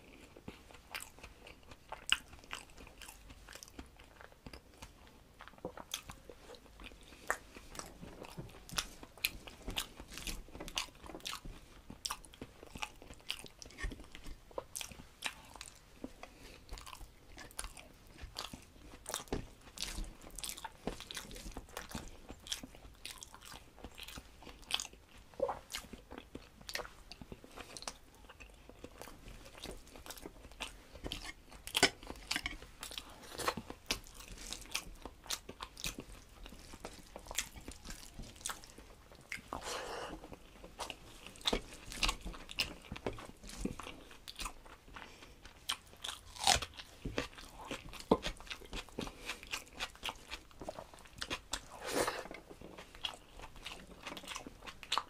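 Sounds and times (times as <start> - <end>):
chewing and lip-smacking: 0.0 - 55.0.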